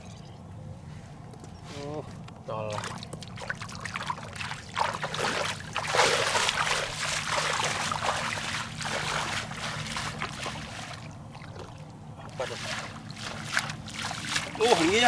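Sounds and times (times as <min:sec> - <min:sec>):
steady low hum: 0:00.0 - 0:15.0
water splashing and sloshing: 0:01.8 - 0:15.0.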